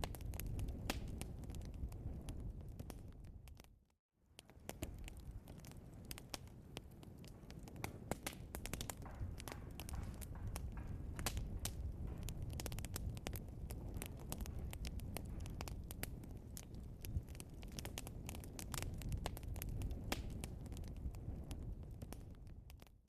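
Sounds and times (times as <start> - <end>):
burning logs crackling and popping: 0.0 - 23.0
low rumble of fire: 0.0 - 23.0.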